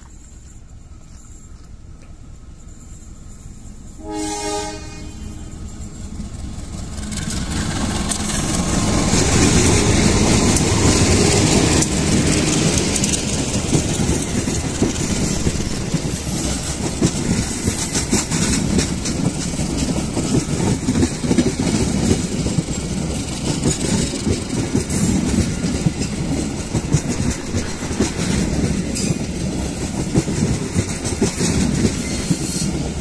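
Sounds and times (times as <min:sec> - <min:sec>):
diesel train passing: 0:00.0 - 0:33.0
wheels clacking over rail joints: 0:06.4 - 0:33.0.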